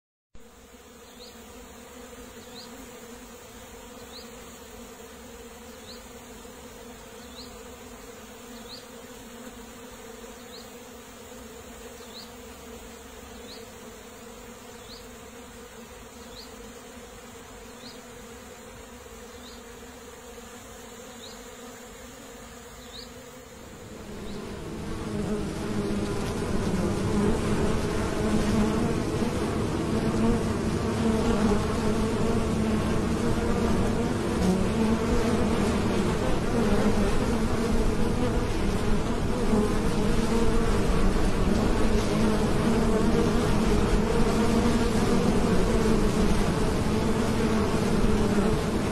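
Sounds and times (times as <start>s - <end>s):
honeybees buzzing: 0.4s - 48.9s.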